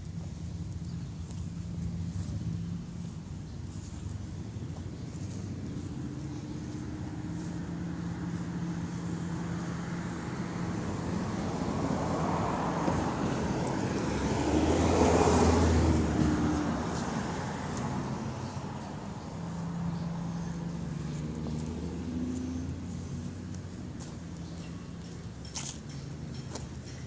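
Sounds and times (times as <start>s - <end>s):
car passing: 0.0s - 27.0s.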